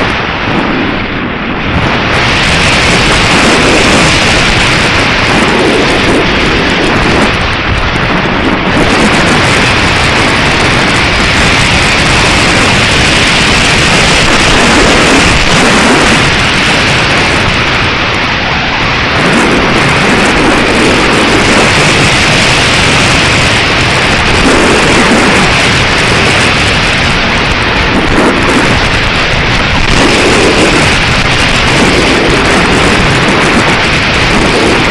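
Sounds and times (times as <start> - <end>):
strong wind buffeting microphone: 0.0 - 34.9.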